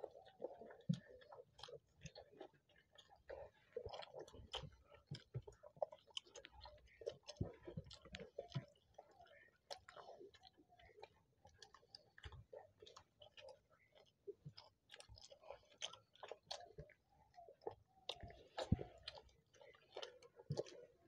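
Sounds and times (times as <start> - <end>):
chewing and wet mouth sounds: 0.0 - 21.0.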